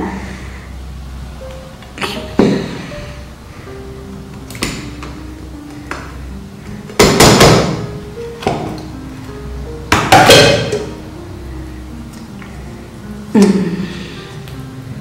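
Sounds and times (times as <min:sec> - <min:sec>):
slow background music: 0:00.0 - 0:15.0.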